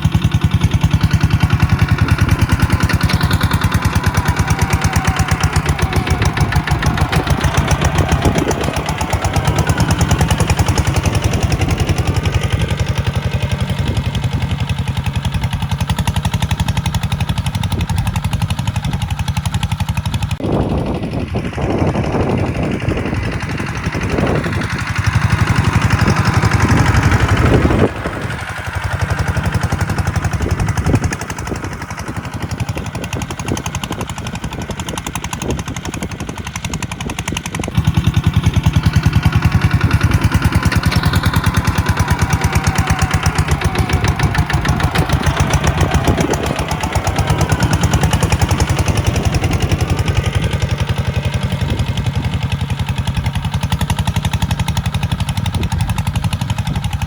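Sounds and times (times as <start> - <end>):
tractor diesel engine knocking: 0.0 - 57.0.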